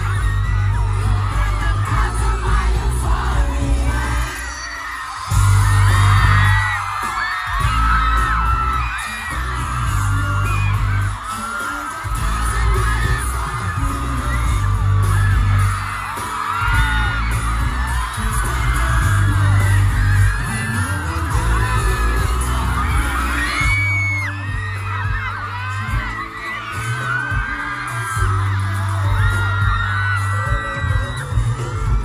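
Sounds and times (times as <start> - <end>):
crowd screaming and cheering: 0.0 - 32.0
live pop song with bass beat: 0.0 - 32.0.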